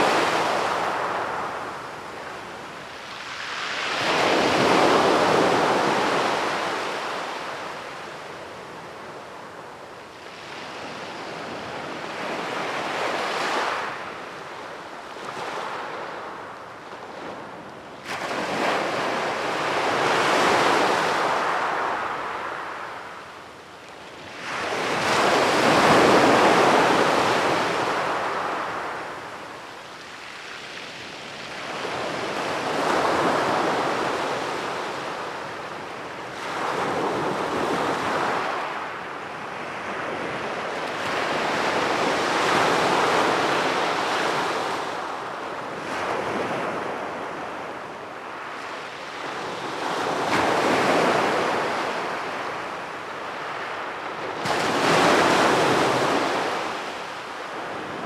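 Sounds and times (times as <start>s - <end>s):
ocean waves crashing on beach: 0.0s - 23.6s, 24.2s - 58.0s.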